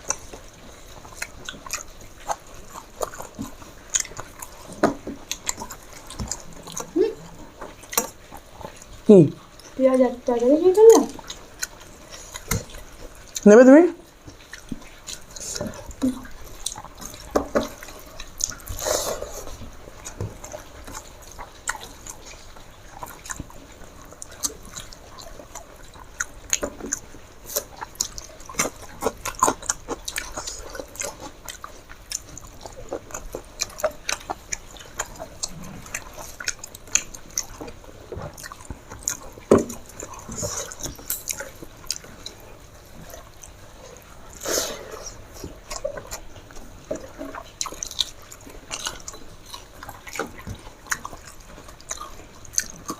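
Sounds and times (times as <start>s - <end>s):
wet chewing and smacking: 0.0s - 52.9s.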